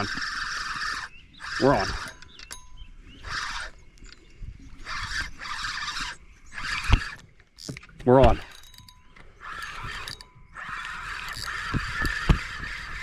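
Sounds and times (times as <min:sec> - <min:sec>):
fishing reel drag buzzing: 0:00.0 - 0:13.0.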